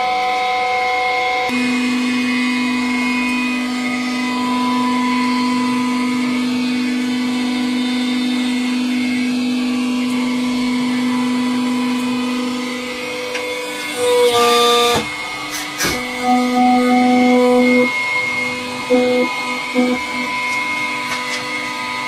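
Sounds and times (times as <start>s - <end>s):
electric pump motor humming: 0.0s - 22.0s.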